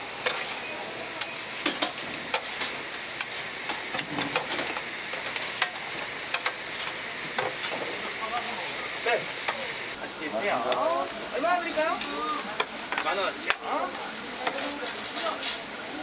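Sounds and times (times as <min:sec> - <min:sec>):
meat sizzling on griddle: 0:00.0 - 0:16.0.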